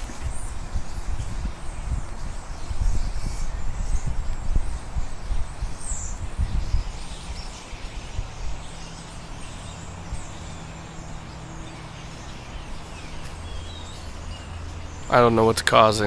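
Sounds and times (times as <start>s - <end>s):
small birds chirping: 0.0s - 16.0s
wind noise on microphone: 0.0s - 16.0s.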